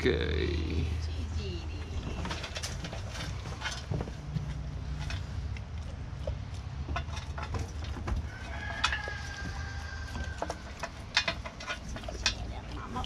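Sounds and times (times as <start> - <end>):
goat crunching food: 1.9 - 13.0.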